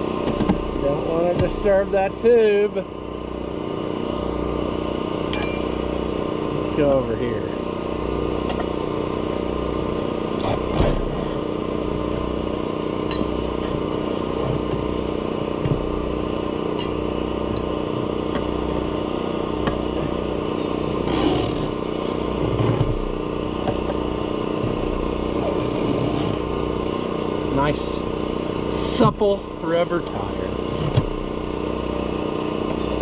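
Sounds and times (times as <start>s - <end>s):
air compressor running: 0.0s - 33.0s.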